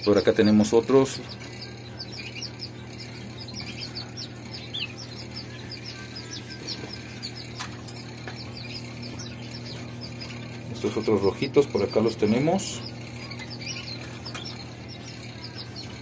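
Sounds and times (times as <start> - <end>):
canaries chirping: 0.0 - 16.0
steady low hum: 0.0 - 16.0.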